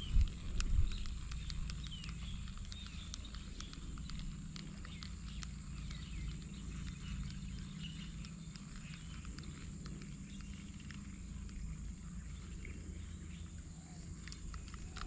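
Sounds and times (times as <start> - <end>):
sharp clicks: 0.0 - 12.1, 14.0 - 15.0.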